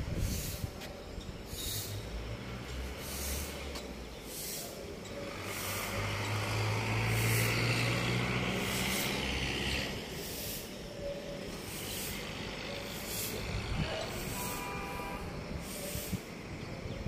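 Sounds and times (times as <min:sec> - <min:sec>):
vehicle engine humming: 0:00.0 - 0:17.0
hiss: 0:00.1 - 0:00.8, 0:01.5 - 0:02.2, 0:02.8 - 0:04.8, 0:05.4 - 0:10.8, 0:11.5 - 0:16.5.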